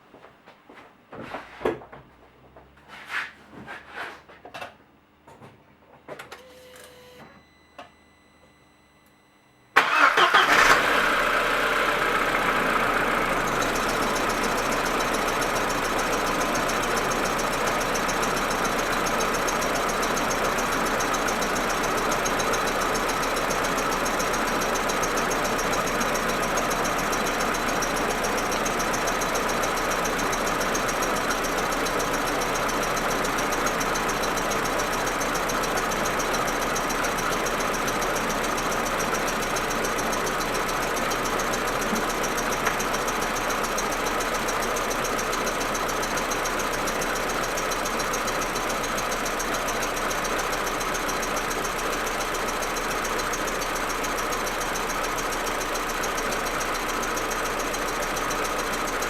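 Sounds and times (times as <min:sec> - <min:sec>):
car engine starting and idling: 0:09.7 - 0:59.0.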